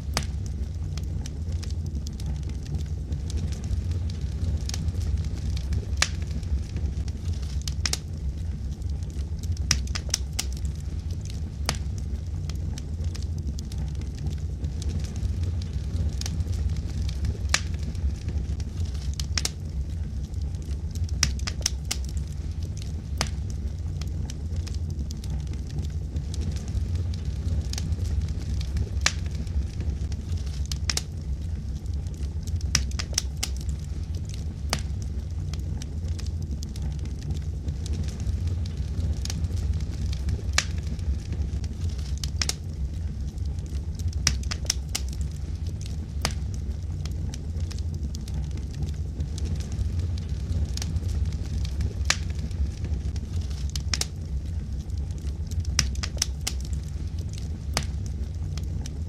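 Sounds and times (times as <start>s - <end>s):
fire flames rumbling: 0.0s - 59.0s
wood crackles and pops: 0.0s - 59.0s.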